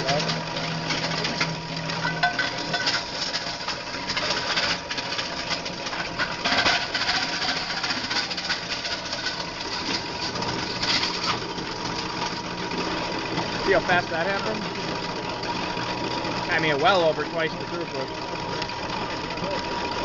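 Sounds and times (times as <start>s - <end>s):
granulator grinding plastic: 0.0s - 20.0s.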